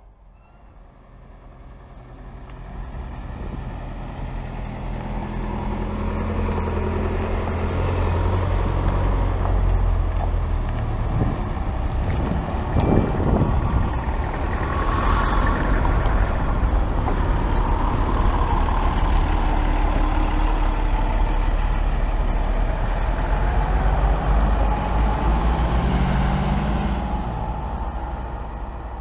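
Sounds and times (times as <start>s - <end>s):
bus engine passing: 0.0s - 29.0s.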